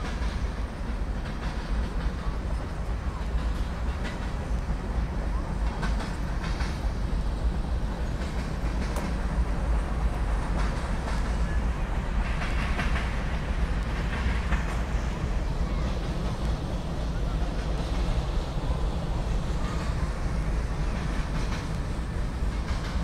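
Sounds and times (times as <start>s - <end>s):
train wheels rumbling on rail: 0.0s - 23.0s
wheels clacking over rail joints: 0.0s - 23.0s.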